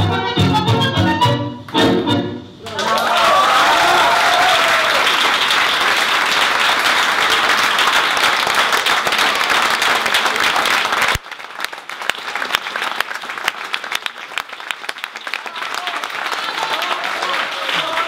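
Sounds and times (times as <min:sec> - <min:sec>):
audience applauding: 0:02.6 - 0:18.0.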